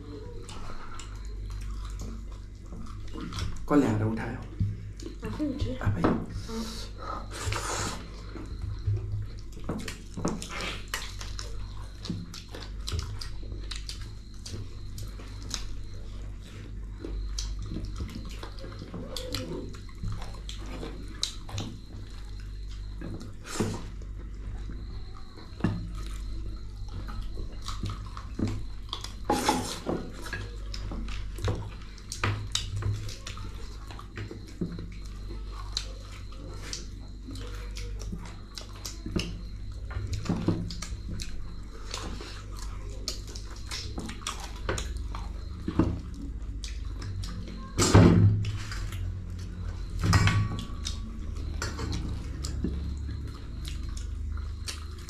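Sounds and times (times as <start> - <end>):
wet mouth chewing: 0.0 - 3.7, 6.9 - 47.7, 48.4 - 55.0
steady low hum: 0.0 - 55.0.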